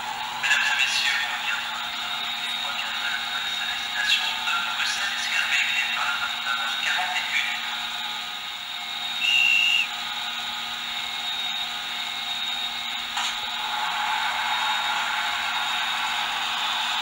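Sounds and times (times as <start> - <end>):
blower and fan hiss: 0.0 - 17.0.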